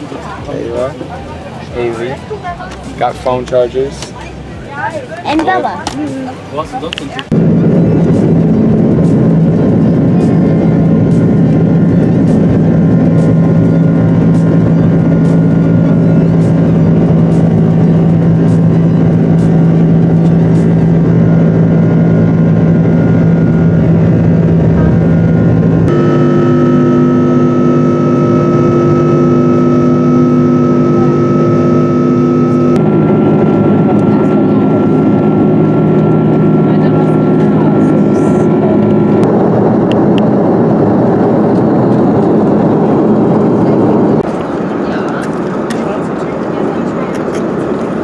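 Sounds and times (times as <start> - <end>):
jet engines droning in cabin: 6.1 - 48.0.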